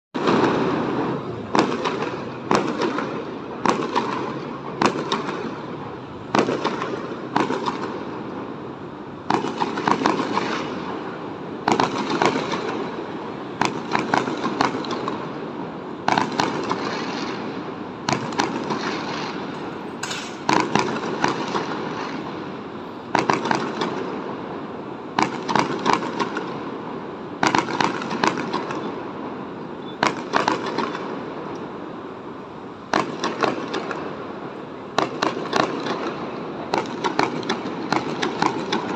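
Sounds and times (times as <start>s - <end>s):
firework bangs: 0.2s - 29.2s, 29.8s - 31.5s, 32.8s - 38.9s
fireworks crackling: 0.2s - 31.8s, 32.8s - 38.9s.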